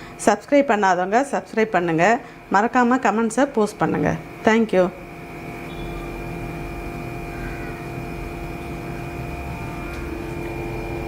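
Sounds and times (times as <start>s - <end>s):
droning hum: 0.0s - 11.0s.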